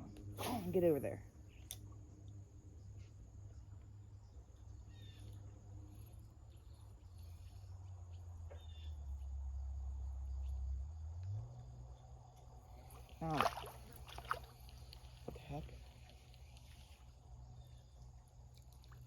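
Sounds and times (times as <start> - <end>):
crickets droning: 0.0 - 19.0.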